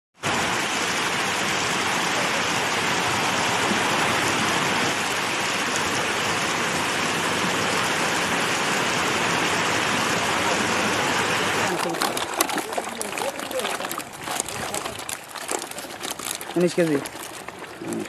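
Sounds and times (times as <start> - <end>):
water splashing into pond: 0.2 - 18.0.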